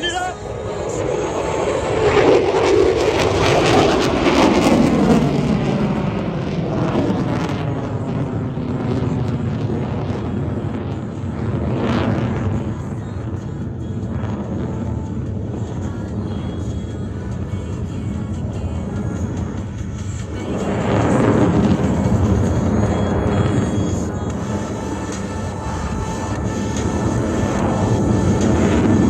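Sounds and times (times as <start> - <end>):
fighter jet engines roaring: 0.0 - 29.0.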